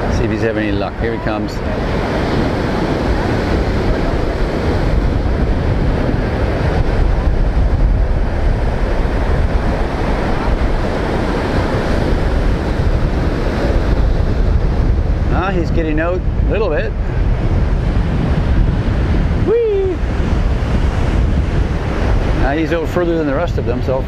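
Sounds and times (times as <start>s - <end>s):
heavy surf breaking: 0.0s - 24.0s
wind buffeting microphone: 0.0s - 24.0s.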